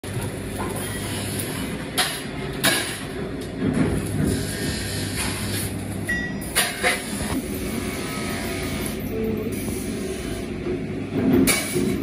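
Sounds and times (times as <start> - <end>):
machinery electrical hum: 0.0 - 12.0.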